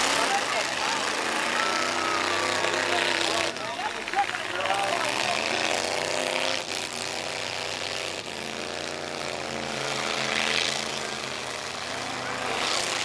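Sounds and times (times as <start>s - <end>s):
pickup truck engines revving: 0.0s - 13.0s.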